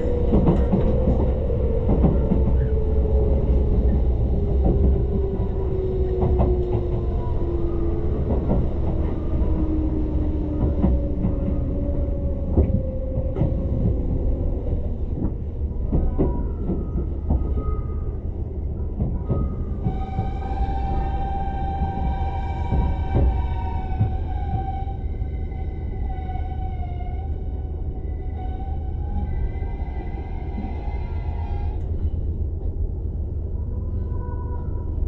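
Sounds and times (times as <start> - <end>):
train drive whine: 0.0 - 35.0
train rumble: 0.0 - 35.0.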